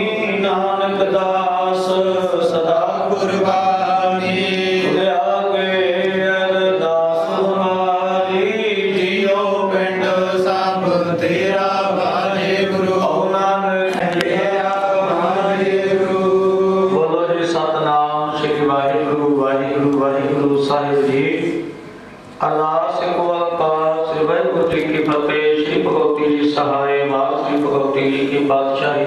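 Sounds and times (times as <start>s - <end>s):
devotional chanting through speakers: 0.0s - 29.0s.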